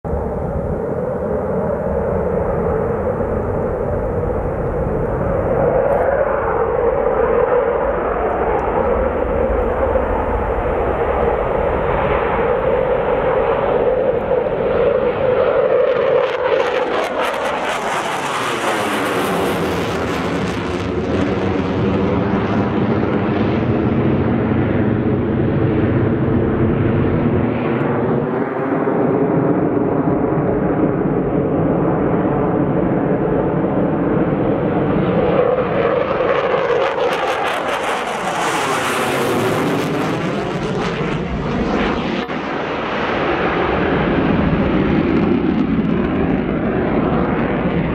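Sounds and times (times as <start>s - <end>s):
jet afterburner roar: 0.1s - 47.9s
phasing whoosh of passing jet: 0.1s - 47.9s.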